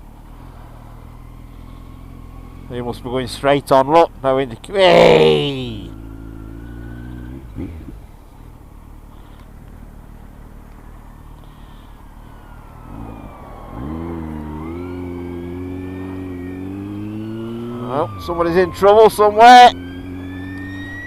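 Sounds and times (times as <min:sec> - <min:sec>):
motorcycle engine revving: 0:00.0 - 0:21.0
faint siren wailing: 0:00.4 - 0:02.7, 0:03.8 - 0:21.0.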